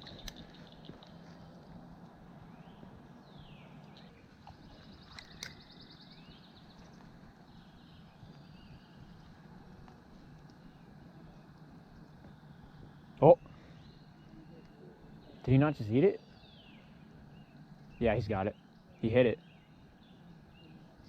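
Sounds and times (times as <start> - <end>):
faint birdsong: 0.0 - 21.0
outdoor background noise: 0.0 - 21.0.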